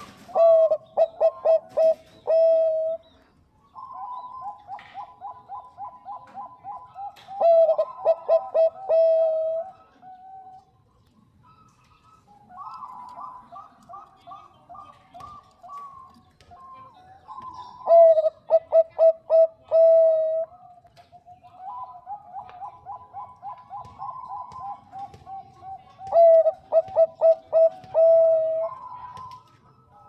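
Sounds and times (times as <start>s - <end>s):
dove cooing: 0.0s - 10.7s, 11.4s - 20.7s, 21.3s - 30.0s.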